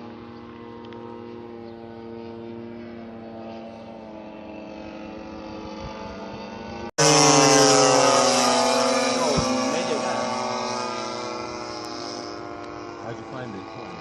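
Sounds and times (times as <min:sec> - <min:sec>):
model airplane engines running: 0:00.0 - 0:14.0.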